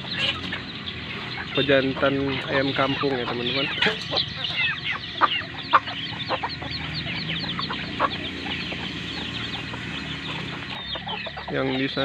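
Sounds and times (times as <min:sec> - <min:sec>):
chickens clucking: 0:00.0 - 0:12.0
rapid high peeping: 0:00.0 - 0:12.0.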